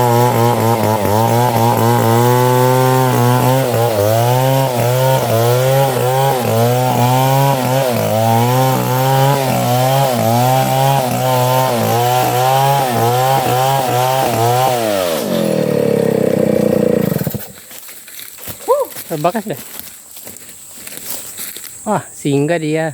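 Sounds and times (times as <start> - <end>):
chainsaw cutting wood: 0.0 - 21.6.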